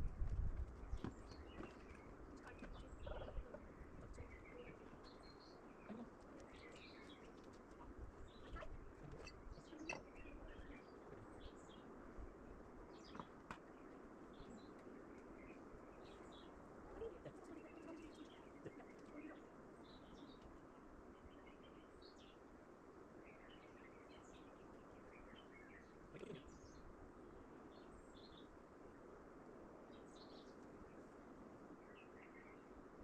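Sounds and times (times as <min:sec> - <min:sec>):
birds chirping: 0:00.7 - 0:22.6, 0:23.2 - 0:28.5.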